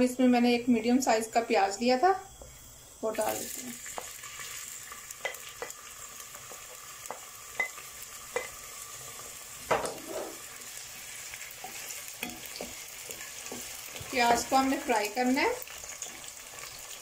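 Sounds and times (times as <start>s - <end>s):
onion sizzling in hot oil: 0.3s - 17.0s.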